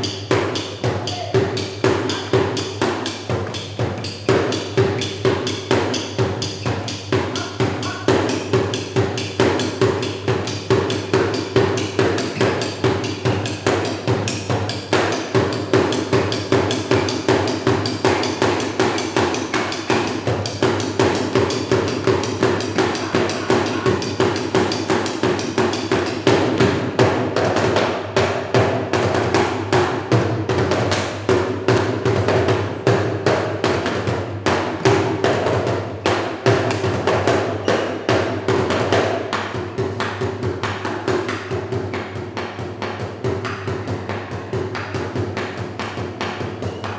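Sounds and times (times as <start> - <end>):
drumsticks beating plastic bucket: 0.0 - 46.9.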